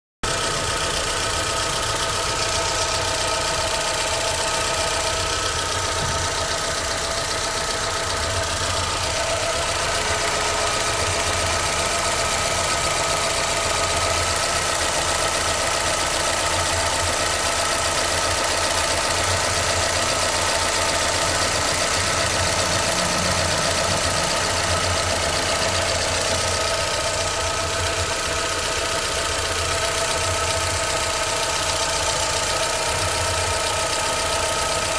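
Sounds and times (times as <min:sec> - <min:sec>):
car engine idling: 0:00.2 - 0:34.9.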